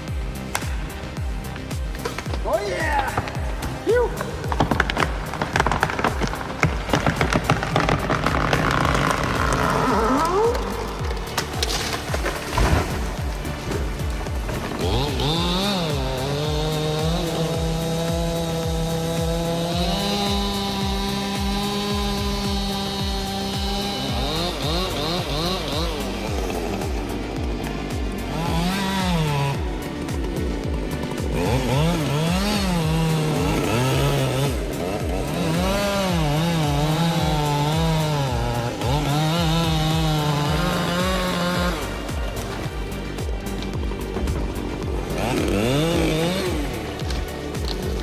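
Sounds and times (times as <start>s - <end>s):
chainsaw engine revving: 0.0s - 48.0s
music with thumping beat: 0.0s - 48.0s.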